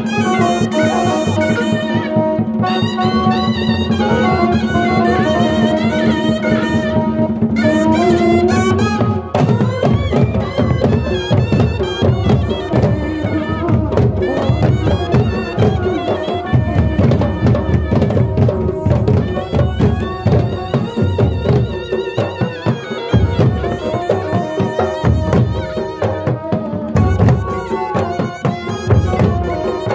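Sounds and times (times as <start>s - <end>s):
barrel drums beating: 0.0s - 29.9s.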